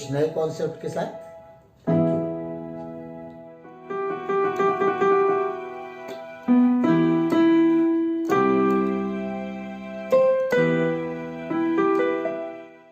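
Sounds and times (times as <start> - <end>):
electronic keyboard piano chords: 0.0 - 12.9.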